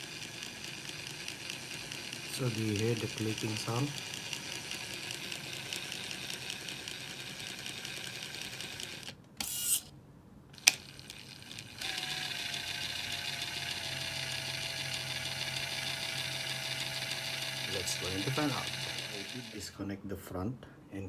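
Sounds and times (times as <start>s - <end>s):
toy car drivetrain spinning: 0.0s - 9.7s, 10.6s - 19.6s
faint motor whine: 0.0s - 9.9s, 10.5s - 19.8s.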